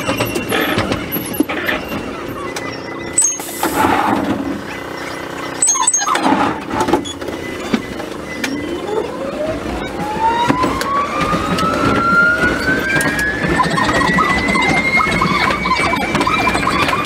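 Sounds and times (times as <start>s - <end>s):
train wheels rumbling on track: 0.0s - 5.6s, 6.2s - 17.0s
electric train motor whine: 0.0s - 17.0s.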